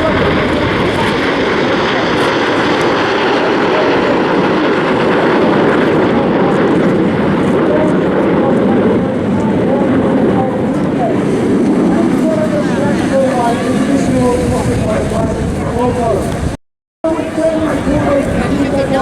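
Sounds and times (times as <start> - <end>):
jets flying over: 0.0 - 19.0.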